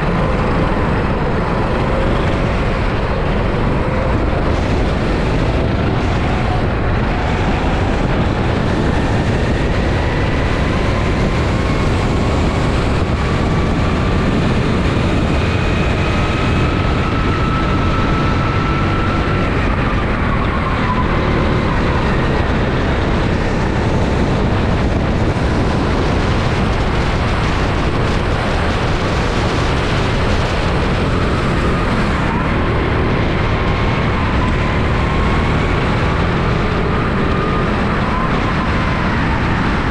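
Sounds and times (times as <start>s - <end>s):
go-kart engine: 0.0s - 39.9s
loud rushing noise: 0.0s - 39.9s.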